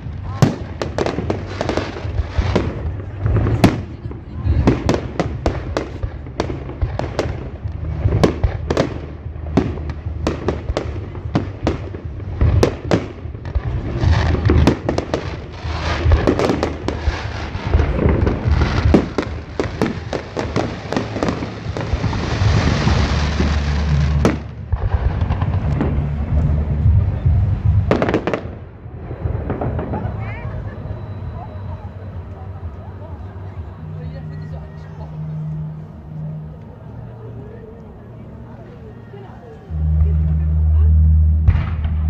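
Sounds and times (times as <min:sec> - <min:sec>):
fireworks bangs and cracks: 0:00.0 - 0:33.8, 0:39.8 - 0:42.0
dense crackling hiss: 0:00.0 - 0:42.0
steady low rumble: 0:00.0 - 0:42.0.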